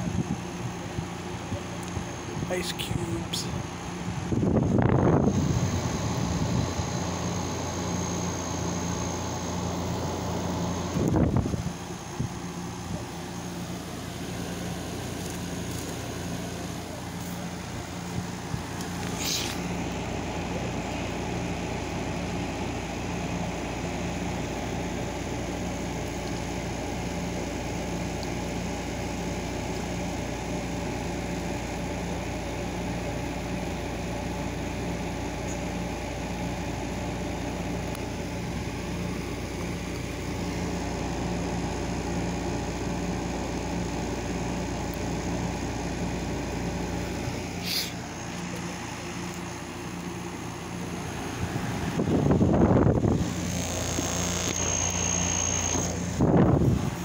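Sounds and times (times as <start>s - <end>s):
air conditioner running: 0.0s - 57.0s.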